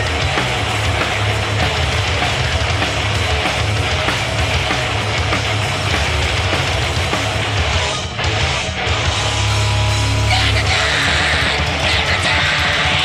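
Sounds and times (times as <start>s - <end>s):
distorted guitars: 0.0s - 13.0s
drum kit: 0.0s - 13.0s
heavy bass: 0.0s - 13.0s.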